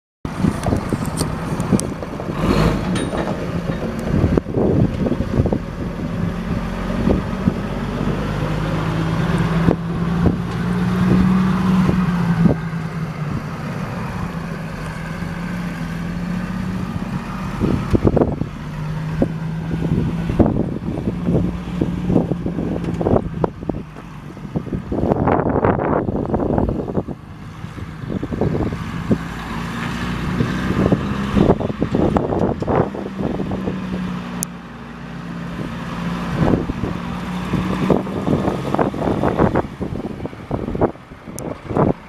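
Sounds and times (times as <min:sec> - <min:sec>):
wind buffeting microphone: 0:00.3 - 0:34.6, 0:35.4 - 0:42.0
diesel truck engine running: 0:00.3 - 0:42.0.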